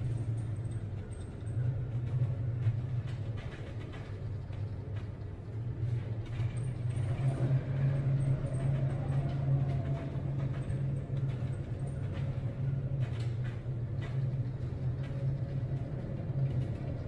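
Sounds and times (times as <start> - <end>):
ship machinery droning hum: 0.0 - 17.0
wind: 0.0 - 17.0.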